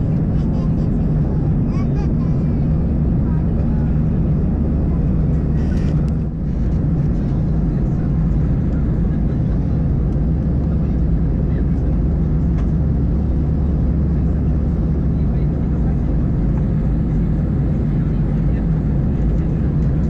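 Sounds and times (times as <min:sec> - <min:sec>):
jet engine drone in cabin: 0:00.0 - 0:20.0.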